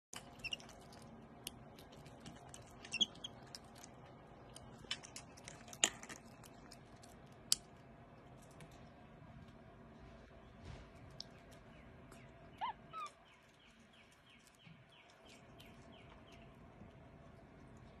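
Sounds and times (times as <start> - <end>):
monkey chewing vegetables: 0.2 - 8.8, 10.9 - 18.0.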